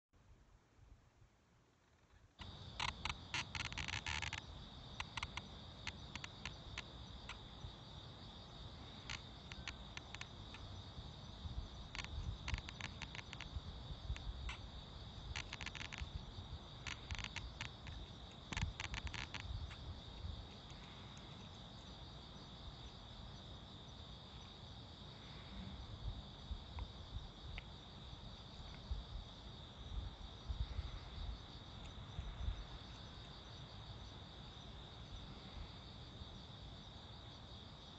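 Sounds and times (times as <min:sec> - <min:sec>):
crickets chirping: 0:01.6 - 0:37.9.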